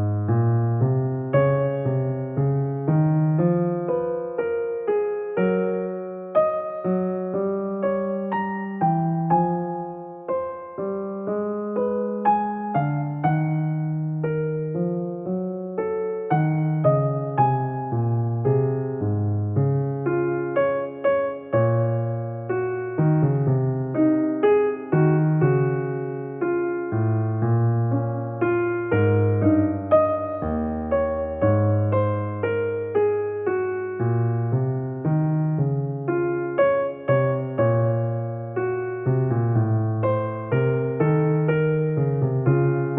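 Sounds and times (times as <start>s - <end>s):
slow gentle piano music: 0.0s - 42.9s.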